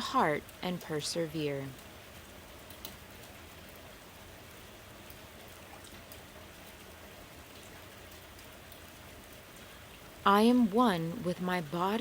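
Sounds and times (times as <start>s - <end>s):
scattered raindrops: 0.0s - 12.0s
steady rainfall: 0.0s - 12.0s.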